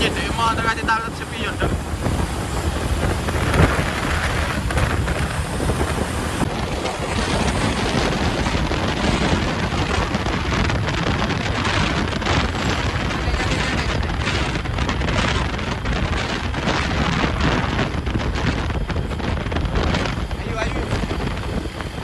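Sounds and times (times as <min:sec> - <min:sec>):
truck engine: 0:00.0 - 0:22.0
wind noise: 0:00.0 - 0:22.0.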